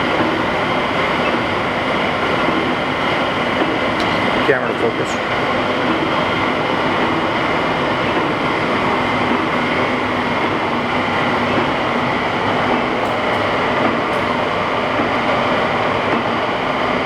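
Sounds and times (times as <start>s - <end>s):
lathe mechanical drone: 0.0s - 17.0s.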